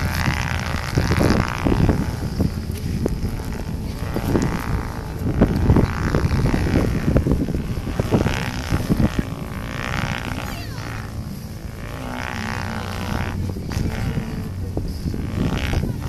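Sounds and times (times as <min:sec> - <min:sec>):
low thumps: 0:00.0 - 0:16.0
wavering pitched hum: 0:00.0 - 0:16.0
wind buffeting microphone: 0:00.0 - 0:16.0.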